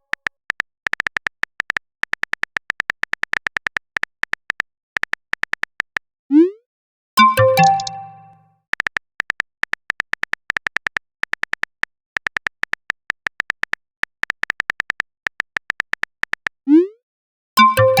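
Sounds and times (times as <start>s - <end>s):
rapid electronic typing ticks: 0.0s - 6.0s, 7.2s - 8.1s, 8.7s - 16.6s.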